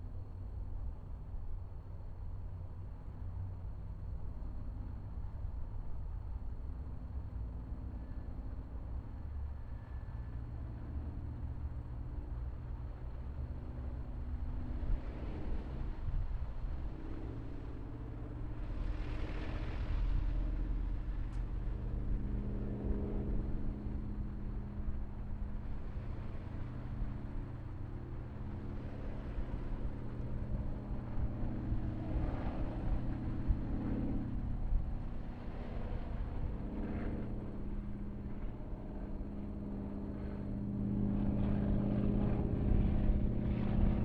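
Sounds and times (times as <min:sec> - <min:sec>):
propeller plane engine drone: 0:00.0 - 0:44.0.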